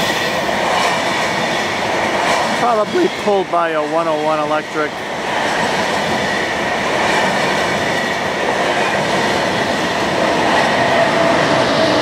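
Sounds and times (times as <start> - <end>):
wheels rushing on rail: 0.0 - 12.0.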